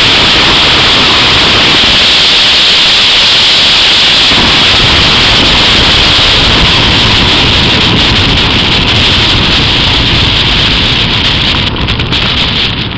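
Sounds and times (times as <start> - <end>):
car road noise: 0.0 - 12.9
wind rushing on microphone: 0.0 - 12.9.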